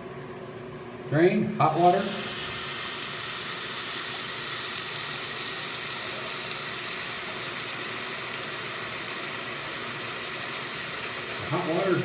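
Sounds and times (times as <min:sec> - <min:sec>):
water running into a sink: 0:01.6 - 0:12.0.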